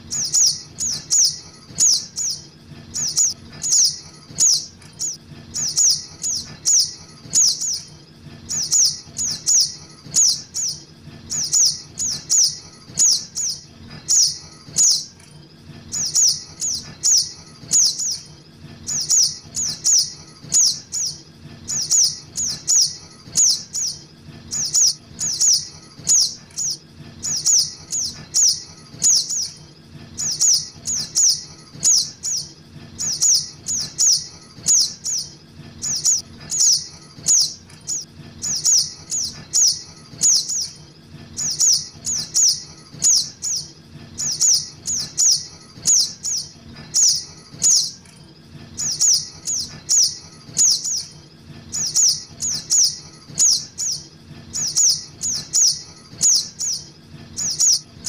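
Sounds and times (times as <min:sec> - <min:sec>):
high bird chirps: 0:00.0 - 0:15.2, 0:15.9 - 0:48.1, 0:48.7 - 0:58.0.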